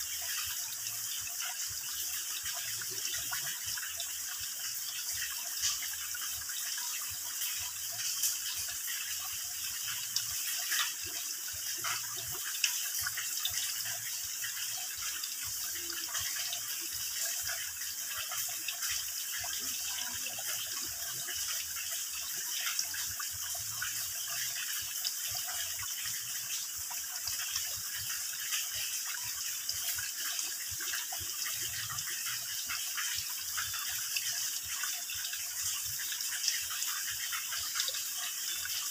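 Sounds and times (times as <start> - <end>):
water dripping into a pool: 0.0 - 38.9.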